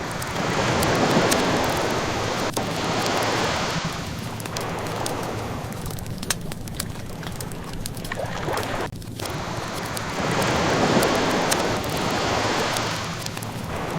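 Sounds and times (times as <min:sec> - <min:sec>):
ocean waves washing in: 0:00.0 - 0:13.9
wood fire crackling: 0:00.0 - 0:13.9.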